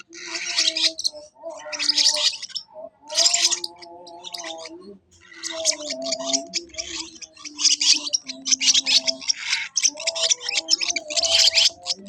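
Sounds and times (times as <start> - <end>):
parrot chicks begging calls: 0.0 - 12.0.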